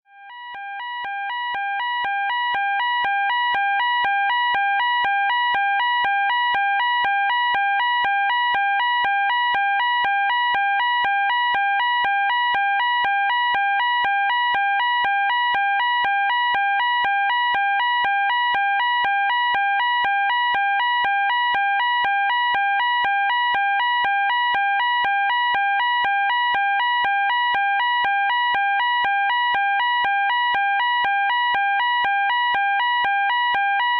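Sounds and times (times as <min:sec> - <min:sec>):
fire alarm two-tone warble: 0:00.1 - 0:33.9.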